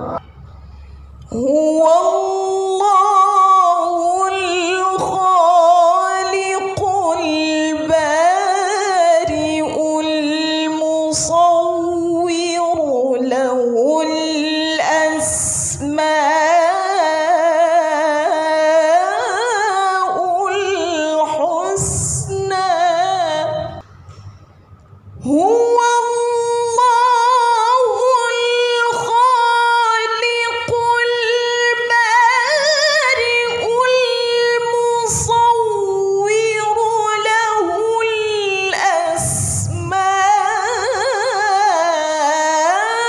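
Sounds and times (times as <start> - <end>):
woman chanting melodically: 1.2 - 23.9, 25.2 - 43.0.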